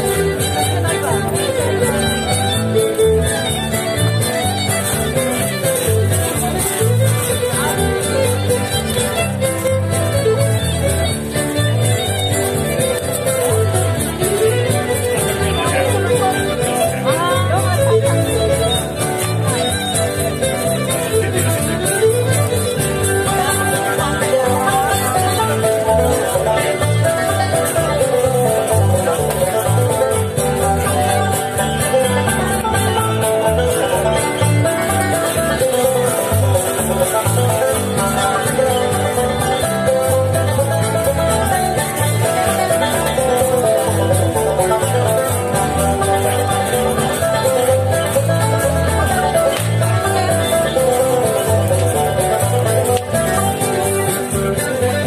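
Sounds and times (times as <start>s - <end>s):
banjo: 0.0s - 55.0s
bluegrass country music: 0.0s - 55.0s
guitar: 0.0s - 55.0s.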